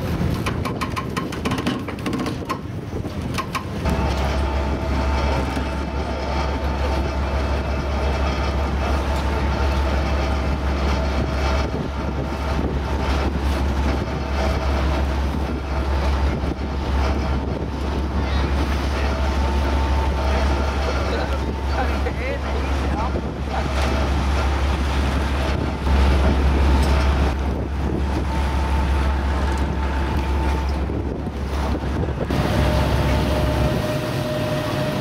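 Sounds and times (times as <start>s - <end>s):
ferry diesel engine drone: 2.6s - 35.0s
steady hum: 3.8s - 35.0s.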